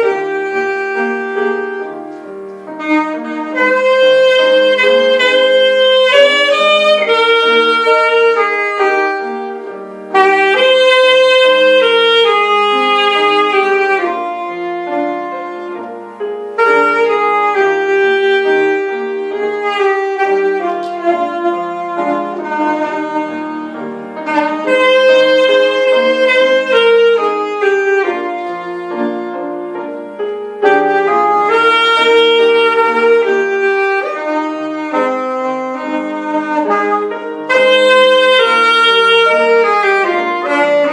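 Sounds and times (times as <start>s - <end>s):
musical accompaniment: 0.0s - 40.9s
saxophone melody: 0.0s - 40.9s.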